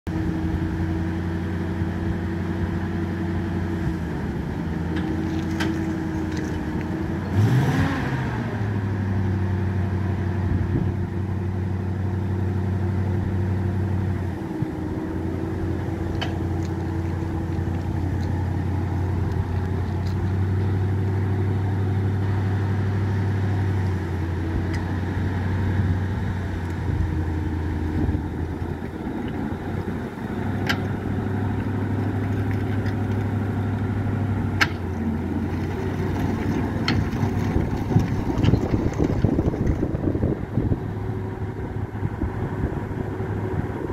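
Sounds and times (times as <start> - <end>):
engine running and revving: 0.1 - 43.9.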